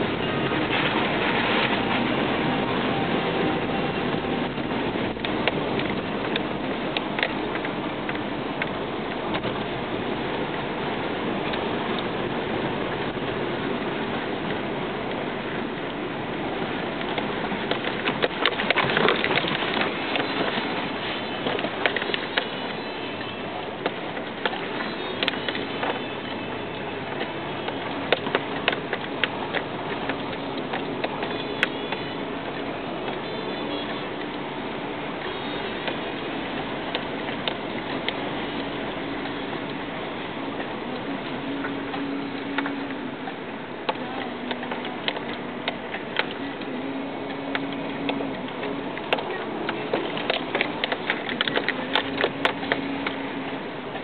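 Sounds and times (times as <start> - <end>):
tyre and engine noise: 0.0 - 54.0.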